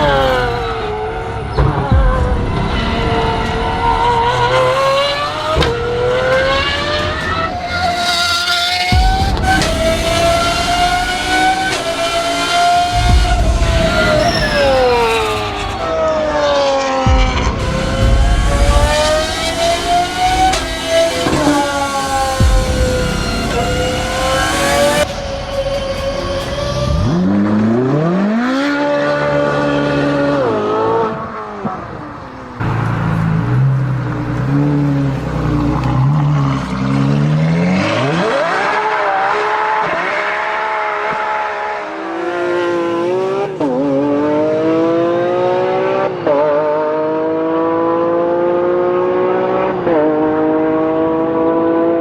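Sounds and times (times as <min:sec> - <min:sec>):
racing car engines revving: 0:00.0 - 0:52.0.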